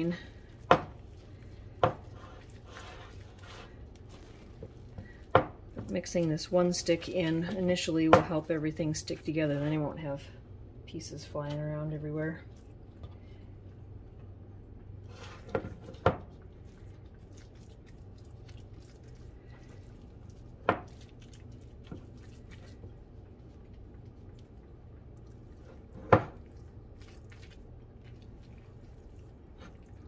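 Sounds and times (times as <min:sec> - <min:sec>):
butter squishing and scraping: 0:00.0 - 0:10.0, 0:12.4 - 0:30.0.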